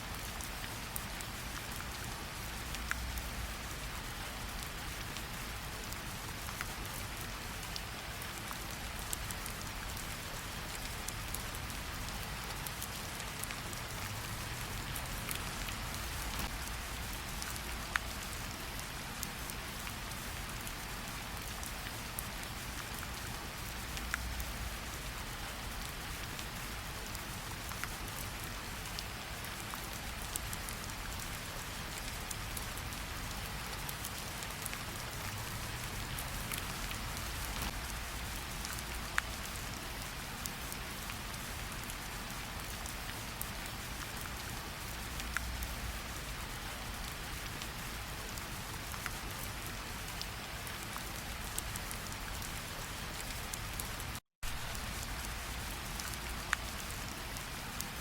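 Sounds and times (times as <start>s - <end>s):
rain on leaves and water: 0.0s - 58.0s.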